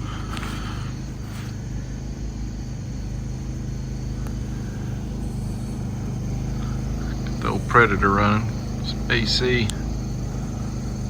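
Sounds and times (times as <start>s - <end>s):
generator running with low hum: 0.0s - 11.0s.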